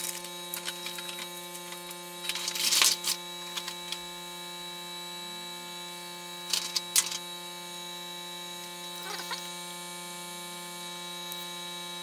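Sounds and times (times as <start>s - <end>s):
electrical hum with high whine: 0.0s - 12.0s.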